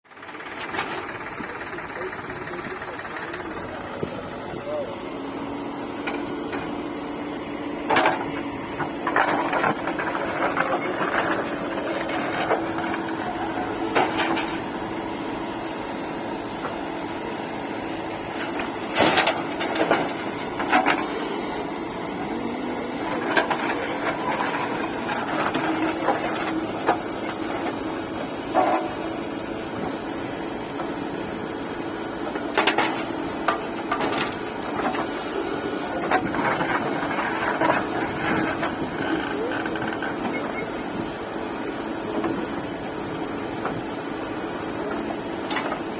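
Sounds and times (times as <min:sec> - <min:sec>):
backhoe diesel engine running: 0:00.0 - 0:45.9.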